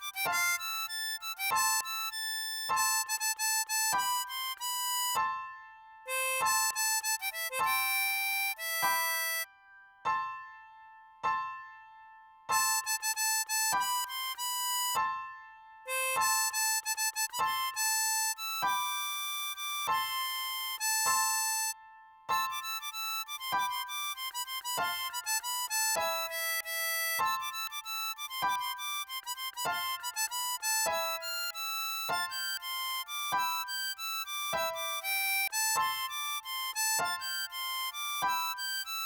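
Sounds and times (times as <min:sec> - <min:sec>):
harmonica melody: 0:00.0 - 0:05.3, 0:06.1 - 0:09.5, 0:12.5 - 0:15.1, 0:15.9 - 0:39.0.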